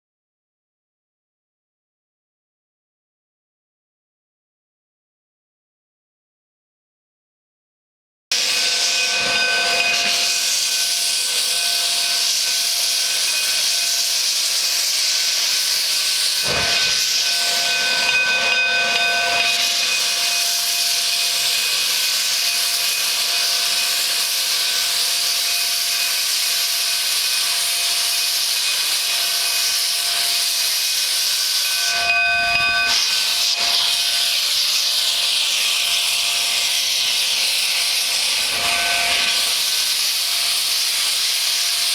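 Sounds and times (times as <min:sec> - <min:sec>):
steam locomotive hissing: 0:08.3 - 0:41.9.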